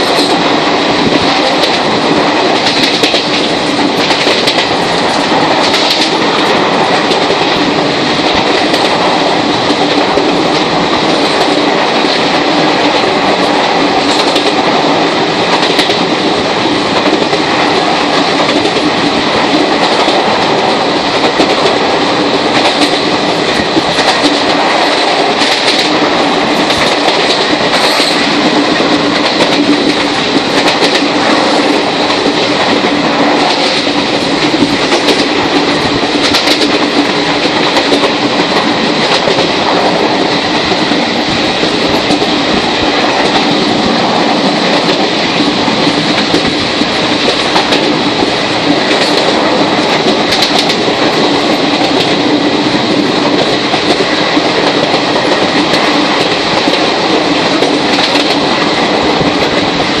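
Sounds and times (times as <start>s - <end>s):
wheels clicking over track: 0.0s - 40.9s, 41.6s - 60.0s
train wheels rushing on rail: 0.0s - 60.0s.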